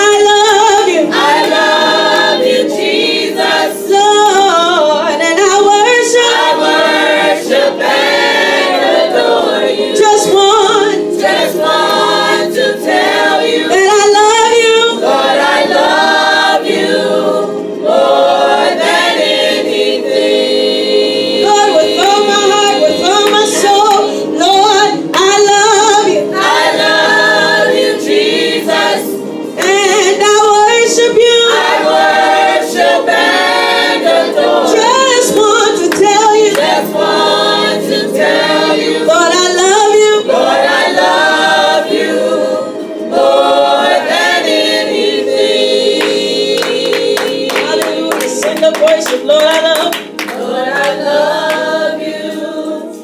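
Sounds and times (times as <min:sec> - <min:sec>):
choir singing gospel song: 0:00.0 - 0:53.0.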